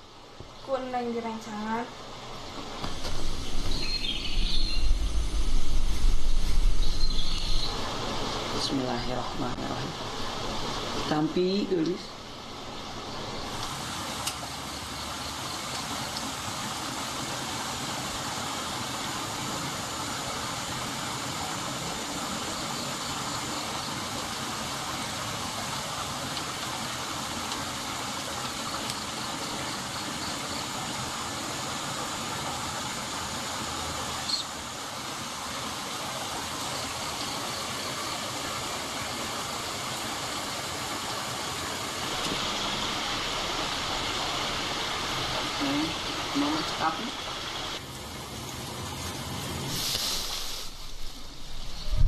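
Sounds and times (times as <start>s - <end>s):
steady rushing noise: 1.9s - 52.0s.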